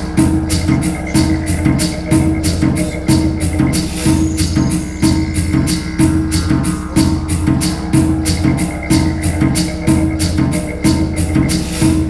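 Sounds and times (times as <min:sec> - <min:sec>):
percussion music from loudspeakers: 0:00.0 - 0:12.0.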